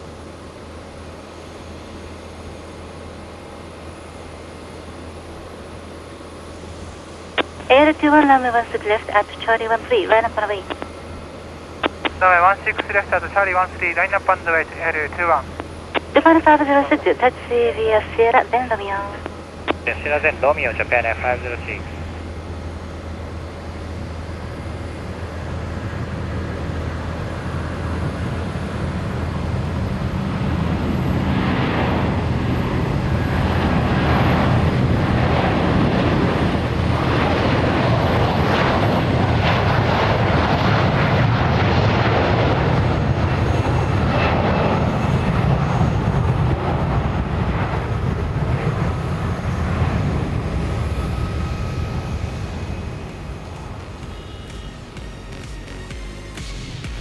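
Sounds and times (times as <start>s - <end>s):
jet airliner taking off: 0.0s - 57.0s.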